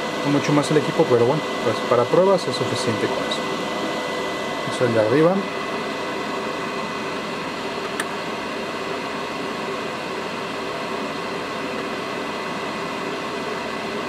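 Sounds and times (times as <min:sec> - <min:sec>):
cooling fans whirring: 0:00.0 - 0:14.0
faint steady whine: 0:00.0 - 0:14.0.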